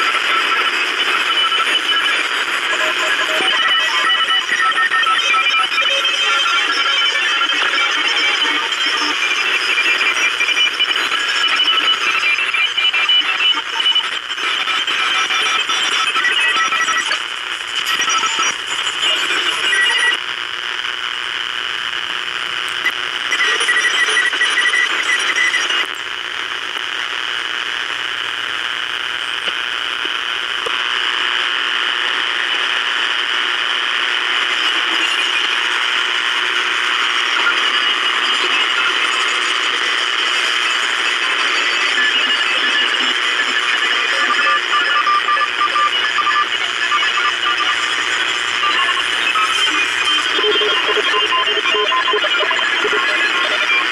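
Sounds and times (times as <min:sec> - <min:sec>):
radio band hiss: 0:00.0 - 0:53.9
rough radio noise: 0:00.0 - 0:53.9.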